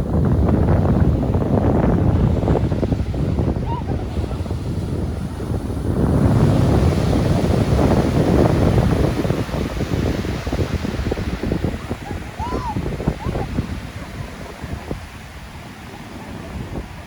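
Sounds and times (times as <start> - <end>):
ocean waves breaking: 0.0 - 17.0
wind buffeting microphone: 0.0 - 17.0.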